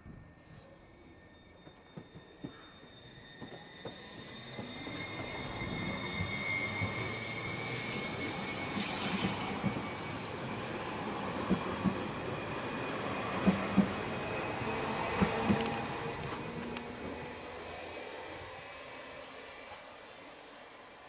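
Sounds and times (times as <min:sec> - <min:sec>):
electric train running noise: 0:00.1 - 0:21.0.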